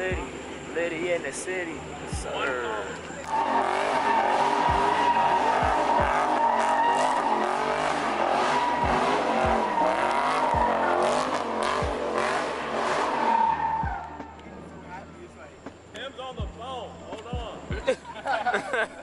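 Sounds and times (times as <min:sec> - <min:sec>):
car tyres squealing: 0:00.0 - 0:16.1.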